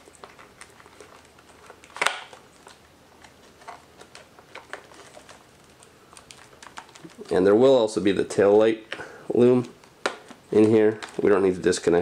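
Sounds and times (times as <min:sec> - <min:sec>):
plastic connectors clicking and rustling: 0:00.0 - 0:12.0.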